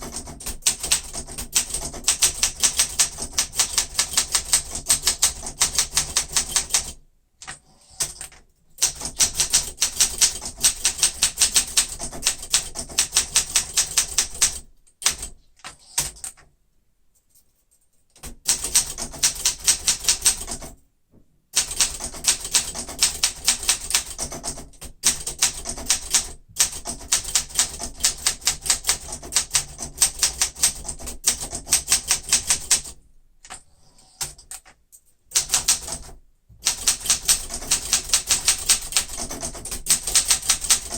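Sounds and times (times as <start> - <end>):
manual typewriter typing: 0.0 - 16.5, 18.1 - 20.8, 21.6 - 40.9.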